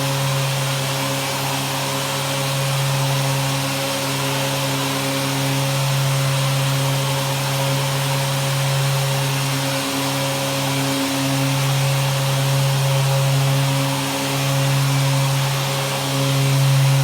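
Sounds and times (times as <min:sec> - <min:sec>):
sander motor hum: 0:00.0 - 0:17.0.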